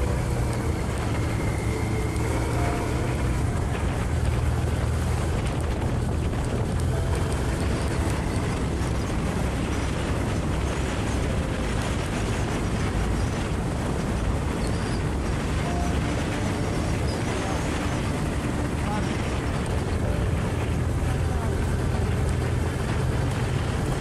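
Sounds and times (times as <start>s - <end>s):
motorcycle engine running: 0.0s - 24.0s
wind noise on microphone: 0.0s - 24.0s.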